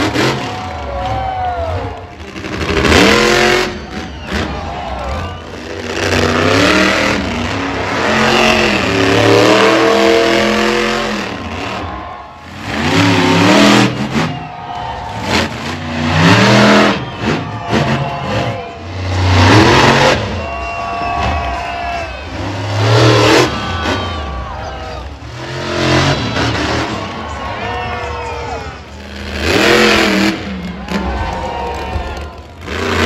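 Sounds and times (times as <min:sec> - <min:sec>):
bursts of loud noise: 0:00.0 - 0:33.0
monster truck engines revving: 0:00.0 - 0:33.0.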